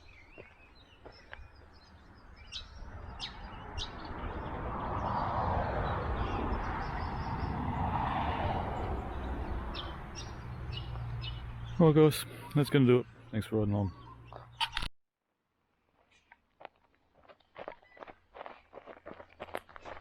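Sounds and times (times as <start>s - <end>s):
small birds chirping: 0.0s - 7.9s, 8.7s - 14.8s, 17.2s - 20.0s.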